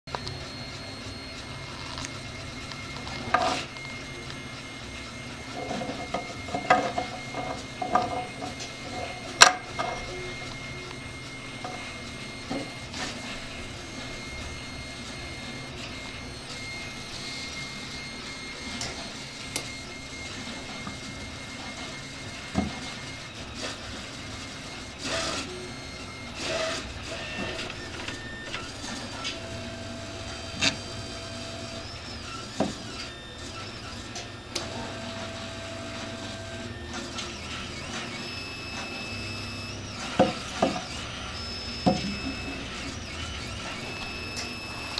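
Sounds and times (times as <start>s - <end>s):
steady mechanical hum: 0.1s - 44.9s
thin whines: 0.1s - 44.9s.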